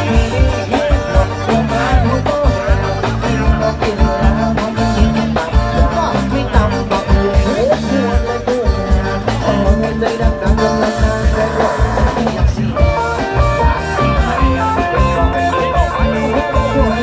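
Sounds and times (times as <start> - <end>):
brass band playing dance tune: 0.0 - 17.0
steady drum beat: 0.0 - 17.0.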